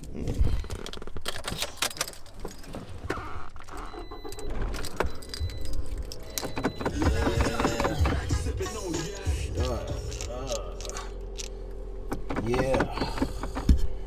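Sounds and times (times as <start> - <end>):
car keys jangling and clicking: 0.8 - 3.0, 3.8 - 8.4, 9.2 - 13.6.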